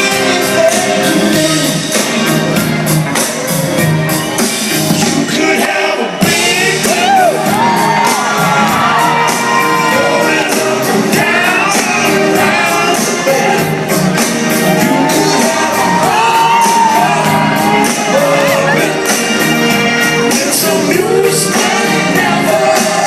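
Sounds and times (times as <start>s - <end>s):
crowd shouting and whooping: 0.0s - 23.0s
live rock band with vocals: 0.0s - 23.0s.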